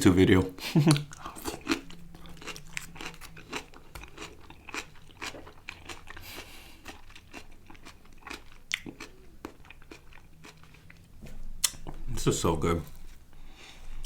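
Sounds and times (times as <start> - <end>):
chewing food: 0.8 - 12.0.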